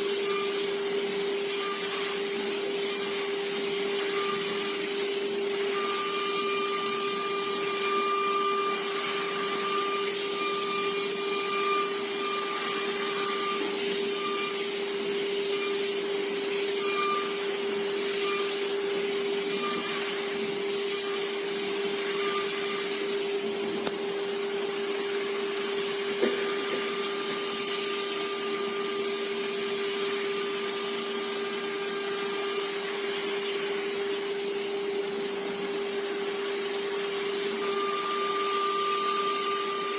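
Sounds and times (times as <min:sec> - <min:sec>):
drill spindle whine: 0:00.0 - 0:39.9
high-pitched motor whine: 0:00.0 - 0:39.9.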